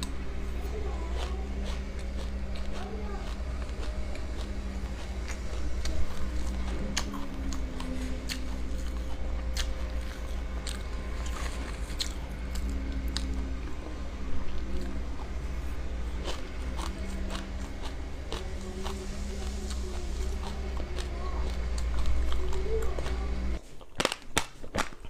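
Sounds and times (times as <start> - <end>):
steady low hum: 0.0 - 23.6
fruit being chewed: 0.0 - 25.0.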